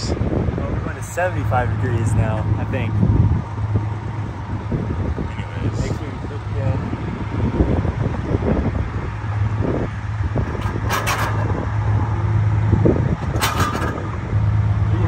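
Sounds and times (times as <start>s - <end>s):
truck engine running: 0.0s - 15.0s
wind buffeting microphone: 0.0s - 15.0s.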